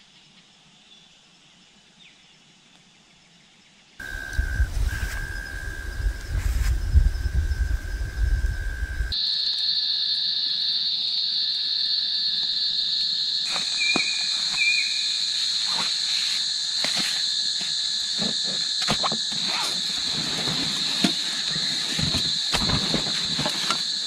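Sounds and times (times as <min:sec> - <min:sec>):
insect chorus trilling: 0:00.0 - 0:24.0.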